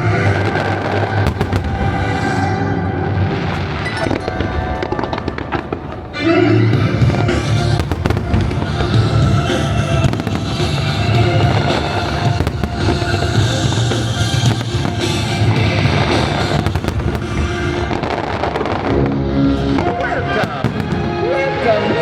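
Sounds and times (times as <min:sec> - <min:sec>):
fireworks bursting and crackling: 0:00.0 - 0:22.0
loud music: 0:00.0 - 0:22.0.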